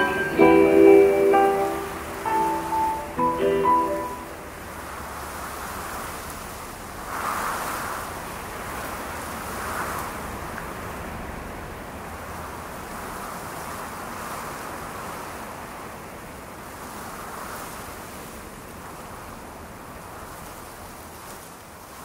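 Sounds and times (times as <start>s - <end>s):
soft rushing noise: 0.0s - 22.0s.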